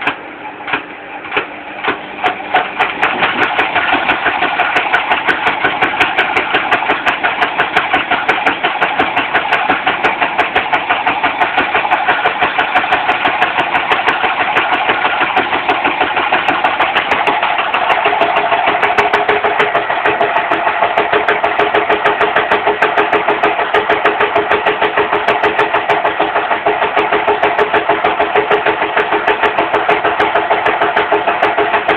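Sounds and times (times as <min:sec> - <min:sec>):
rapid rhythmic knocking inside machine: 0:00.0 - 0:31.9
washing machine running: 0:00.0 - 0:31.9.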